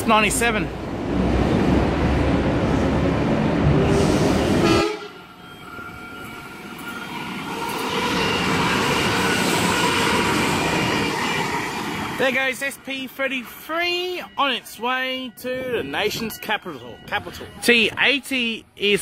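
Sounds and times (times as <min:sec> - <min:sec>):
electric train rumbling: 0:00.0 - 0:18.1
approaching train whining: 0:00.2 - 0:17.6.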